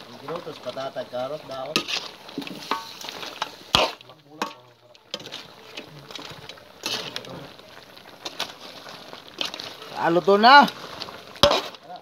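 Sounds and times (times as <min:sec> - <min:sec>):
stew sizzling: 0:00.0 - 0:12.0
ladle scraping wok: 0:00.2 - 0:12.0.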